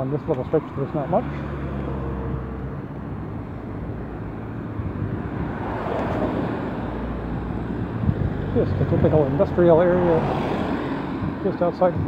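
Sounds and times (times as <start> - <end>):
road traffic: 0.0 - 12.0
wind on microphone: 2.0 - 12.0.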